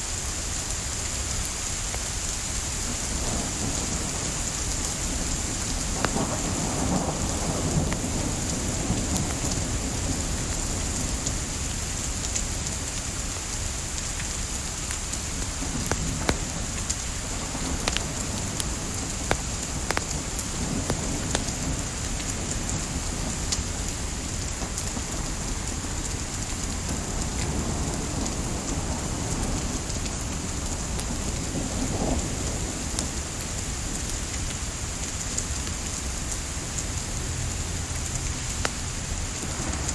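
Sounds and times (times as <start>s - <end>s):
light rain hissing: 0.0s - 39.9s
burning wood crackling: 0.2s - 39.9s.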